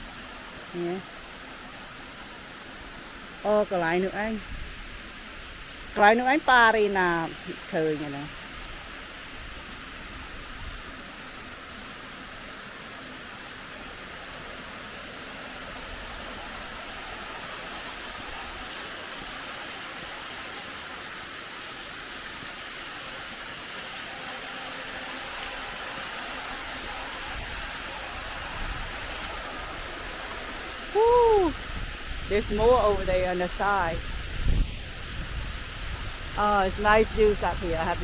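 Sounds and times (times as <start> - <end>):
small waterfall hissing: 0.0 - 38.0.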